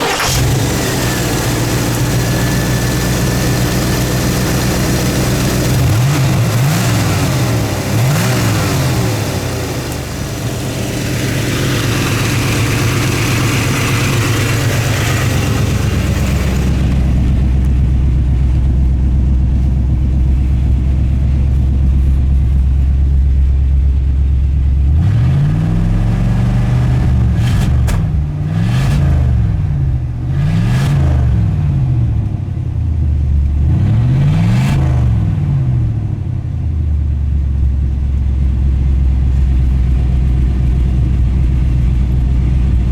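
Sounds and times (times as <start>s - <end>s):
car engine idling: 0.0s - 28.5s, 35.8s - 42.9s
engine throttle blips: 0.0s - 32.4s, 37.3s - 42.9s.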